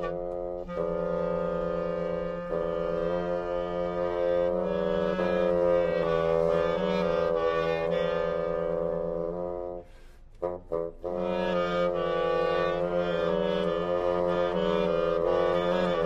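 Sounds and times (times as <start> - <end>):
chamber music for woodwinds: 0.0 - 16.0.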